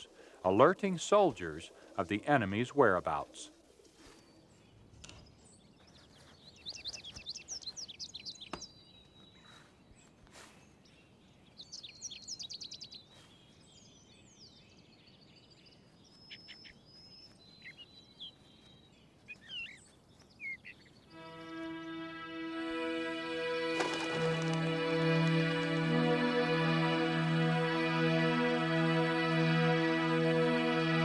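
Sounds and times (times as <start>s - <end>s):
small birds chirping faintly: 0.0s - 31.0s.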